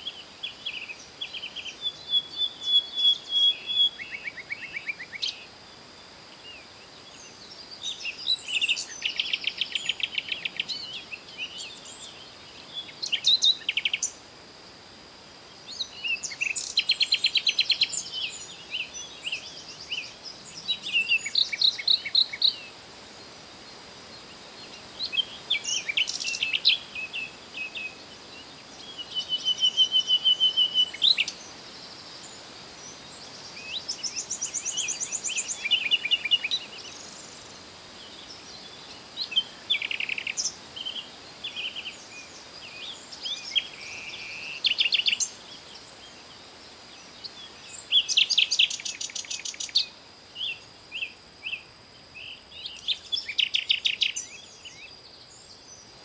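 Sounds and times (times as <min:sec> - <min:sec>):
faint high-pitched hiss: 0:00.0 - 0:56.0
songbirds trilling and chirping: 0:00.0 - 0:56.0.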